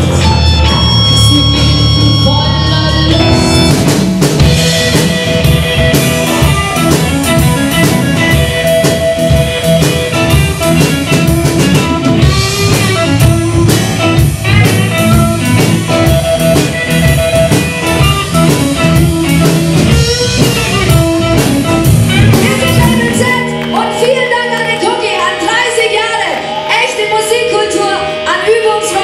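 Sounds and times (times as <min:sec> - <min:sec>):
drum kit beat: 0:00.0 - 0:26.2
bass guitar: 0:00.0 - 0:29.0
electric guitar lead: 0:00.0 - 0:29.0.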